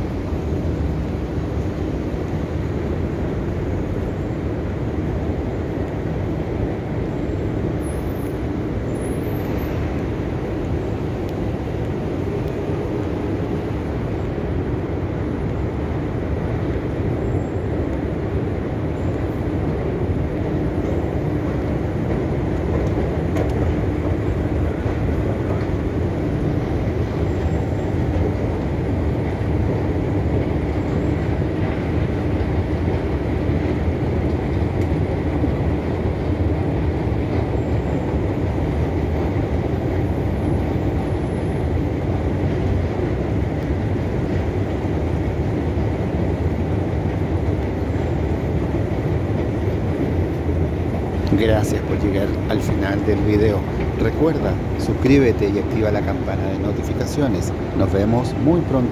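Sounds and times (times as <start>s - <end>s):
machinery and ventilation rumble: 0.0s - 58.9s.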